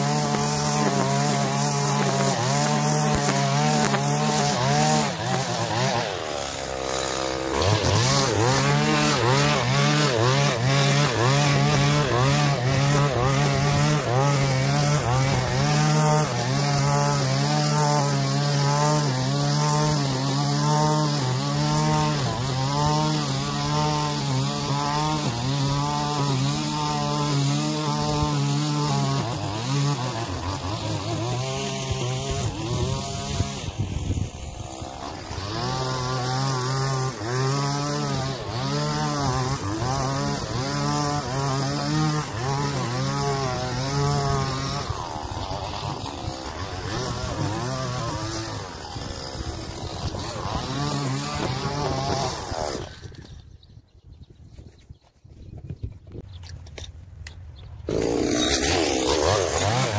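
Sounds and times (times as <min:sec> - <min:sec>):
string trimmer cutting grass: 0:00.0 - 0:53.9, 0:54.5 - 0:59.9.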